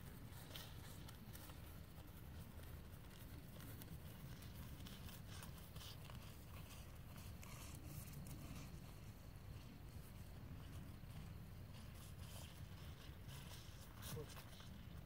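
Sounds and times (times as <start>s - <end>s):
hooves walking on dirt: 0.0s - 15.0s
low steady rumble: 0.0s - 15.0s.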